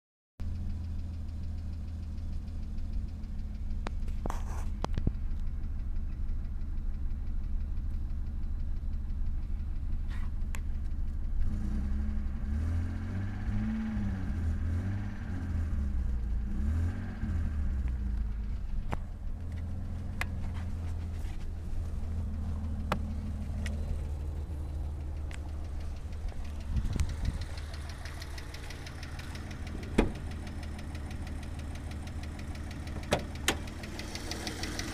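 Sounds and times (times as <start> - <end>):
car engine idling and revving: 0.4 - 34.9
engine knock: 0.4 - 34.9.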